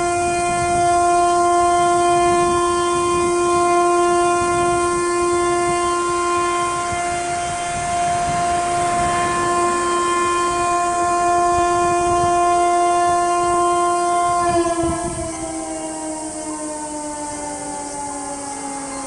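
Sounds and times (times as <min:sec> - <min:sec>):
motor siren winding down: 0:00.0 - 0:19.0.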